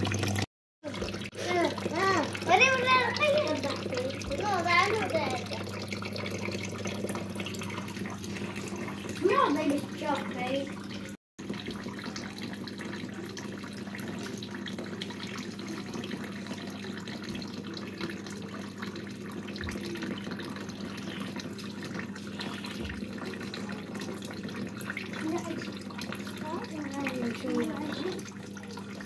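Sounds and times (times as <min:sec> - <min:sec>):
water pouring into plastic bottle: 0:00.0 - 0:29.0.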